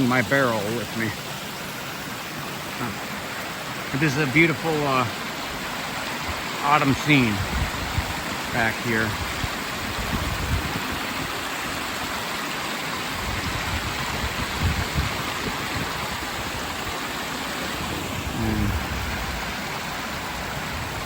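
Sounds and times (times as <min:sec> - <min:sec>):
small waterfall rushing: 0:00.0 - 0:21.0.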